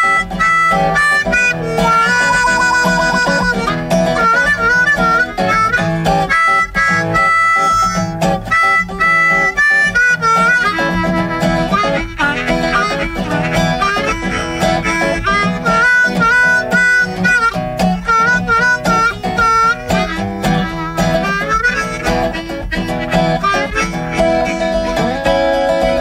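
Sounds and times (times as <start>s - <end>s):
backing band with guitar: 0.0s - 26.0s
blues harmonica riff: 0.0s - 26.0s.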